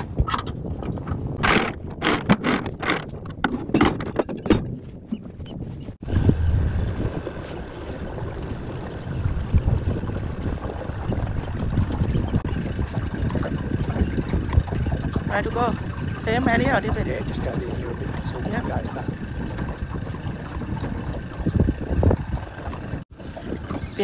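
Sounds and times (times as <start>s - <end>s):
knocks and scrapes on boat: 0.0s - 6.0s, 10.6s - 24.0s
boat motor rumbling: 0.0s - 24.0s
water noise: 0.0s - 24.0s
wind: 0.0s - 24.0s.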